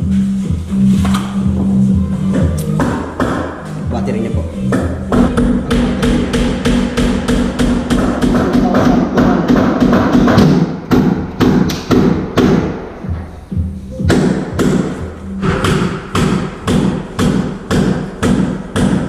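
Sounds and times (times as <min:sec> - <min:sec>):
music with thumping beat: 0:00.0 - 0:19.0.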